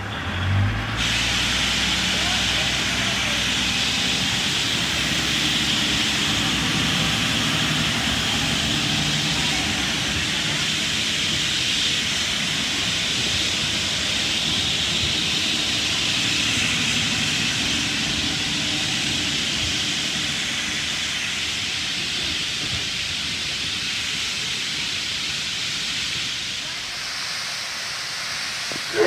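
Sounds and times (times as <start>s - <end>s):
train carriages rolling on rails: 0.0s - 29.0s
strong hiss: 0.9s - 29.0s.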